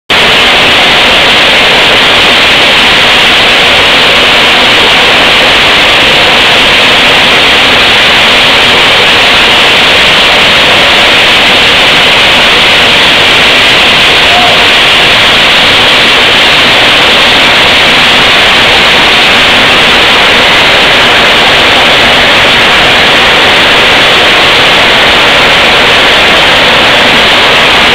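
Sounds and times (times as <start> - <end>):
flour mill machinery roaring: 0.1 - 27.9.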